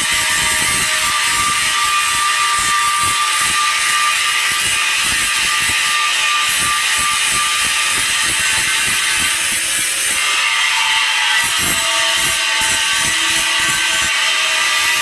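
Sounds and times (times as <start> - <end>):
welding arc hissing crackle: 0.0 - 15.0.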